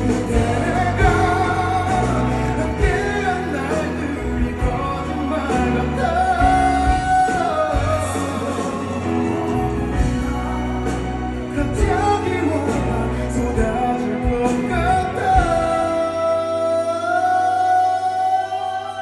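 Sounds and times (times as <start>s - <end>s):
drums hitting: 0.0s - 16.0s
live band playing pop ballad: 0.0s - 19.0s
man singing: 0.0s - 19.0s.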